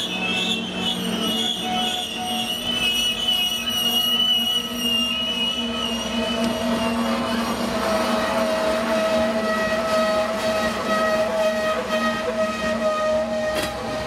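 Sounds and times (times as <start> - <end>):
freight cars rolling: 0.0 - 12.4, 13.2 - 14.0
train wheels squealing: 0.0 - 14.0.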